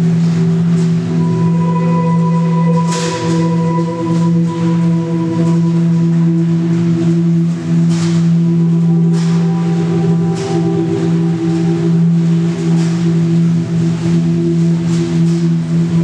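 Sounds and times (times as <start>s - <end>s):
low drone: 0.0s - 16.0s
noisy swishes: 0.0s - 16.0s
ringing held tones: 0.4s - 14.9s.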